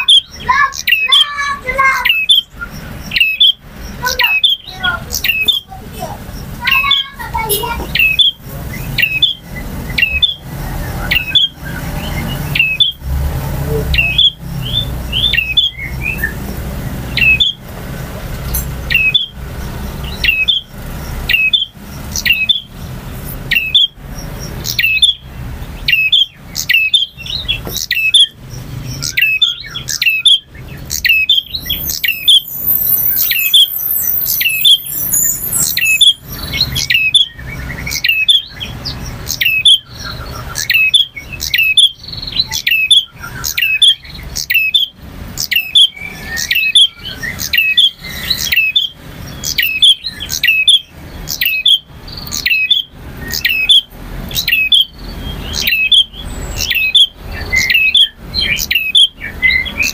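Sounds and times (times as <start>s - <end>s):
bird chirping: 0.0s - 59.9s
high bird trill: 0.0s - 59.9s.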